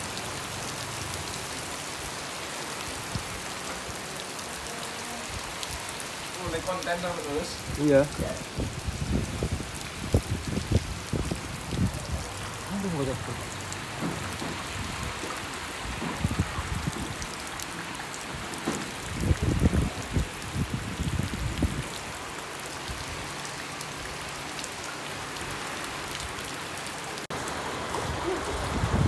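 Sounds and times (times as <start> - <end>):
heavy rain on water: 0.0 - 29.0.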